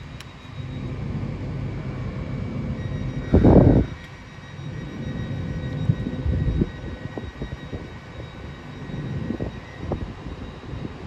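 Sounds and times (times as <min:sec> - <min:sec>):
diesel train engines idling: 0:00.0 - 0:11.0.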